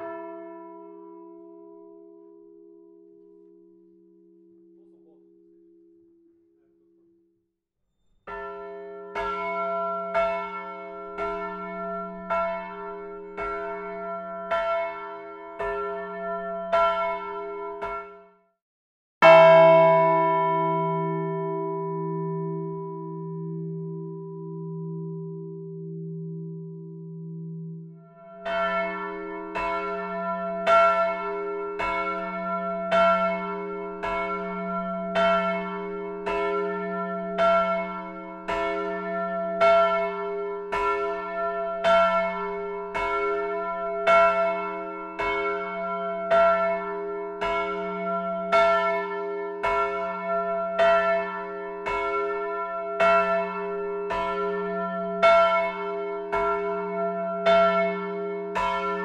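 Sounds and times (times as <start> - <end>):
church bells ringing: 0.0 - 6.0, 8.3 - 18.3, 19.2 - 59.0.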